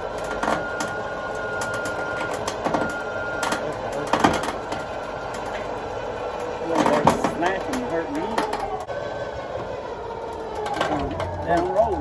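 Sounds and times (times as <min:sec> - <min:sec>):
sharp knocks and clanks: 0:00.0 - 0:01.0, 0:01.6 - 0:08.9, 0:10.5 - 0:12.0
electric winch motor whining: 0:00.0 - 0:12.0.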